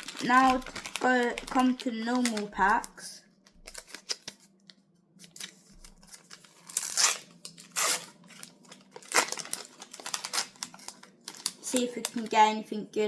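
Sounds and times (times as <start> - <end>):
card pack wrapper tearing: 0.0 - 2.9, 3.6 - 4.5, 5.2 - 12.3.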